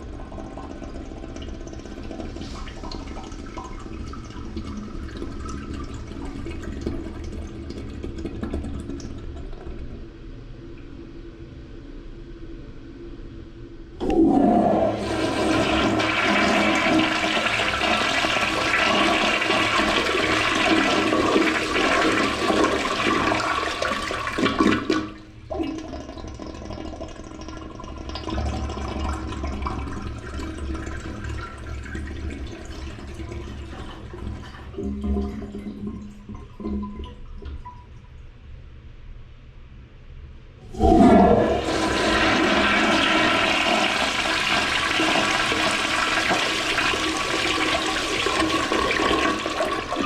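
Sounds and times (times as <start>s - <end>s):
water running: 0.0s - 9.1s, 14.0s - 37.8s, 40.7s - 50.0s
toilet flushing: 0.0s - 10.0s, 14.0s - 37.9s, 40.6s - 50.0s.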